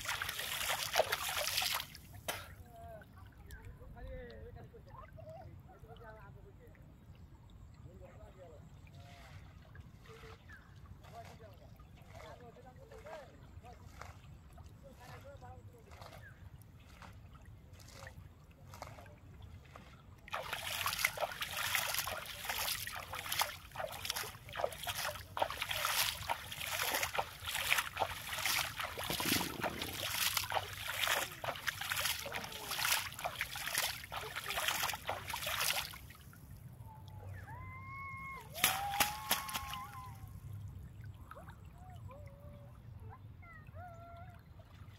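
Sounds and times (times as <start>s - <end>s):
water sloshing and splashing: 0.0s - 37.4s, 38.2s - 43.1s.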